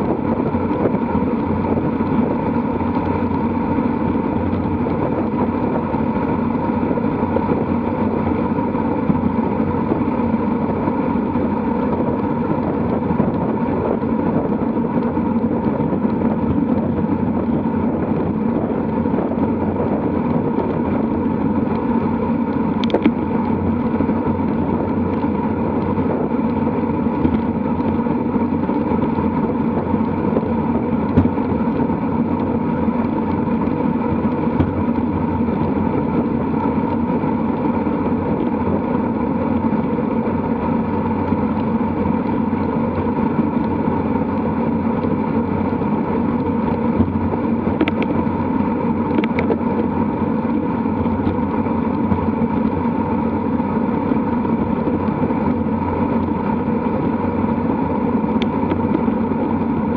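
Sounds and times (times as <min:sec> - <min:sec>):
bicycle tyre hum: 0:00.0 - 0:59.9
wind rushing over microphone: 0:00.0 - 0:59.9.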